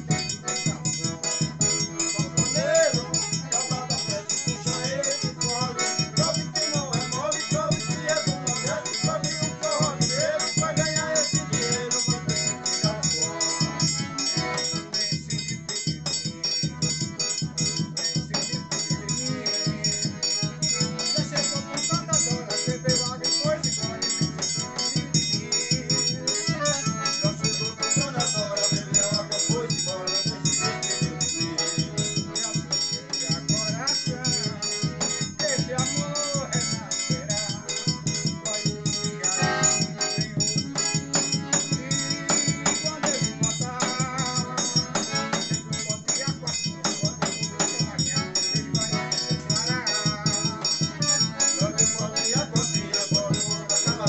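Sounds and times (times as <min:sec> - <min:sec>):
accordion melody: 0:00.0 - 0:54.0
quick percussion beat: 0:00.0 - 0:54.0.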